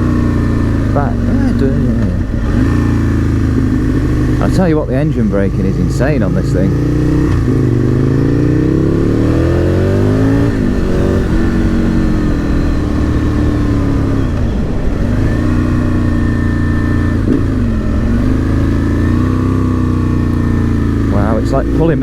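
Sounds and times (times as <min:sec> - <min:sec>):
motorcycle engine revving: 0:00.0 - 0:21.6.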